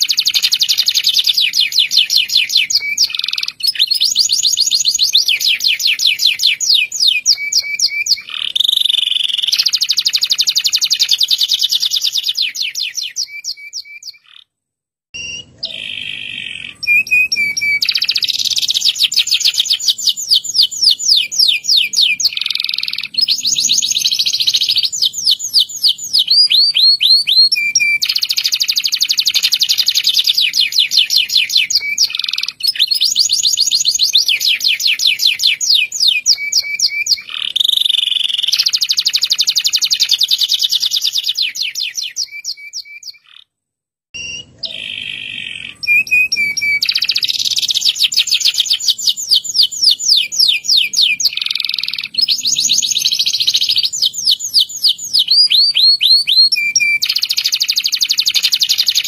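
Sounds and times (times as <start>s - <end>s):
canary singing rolling trills: 0.0s - 14.5s, 15.2s - 43.5s, 44.2s - 59.0s.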